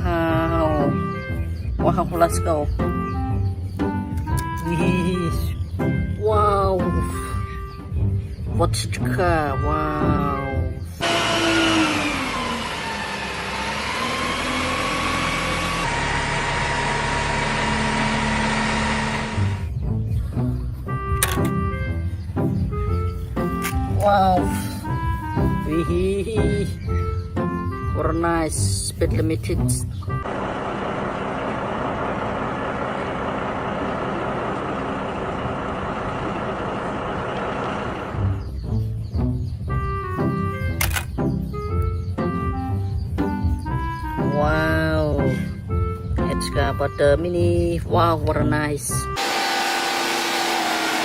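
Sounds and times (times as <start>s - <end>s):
vehicle engine running: 0.0s - 47.5s, 48.3s - 51.0s.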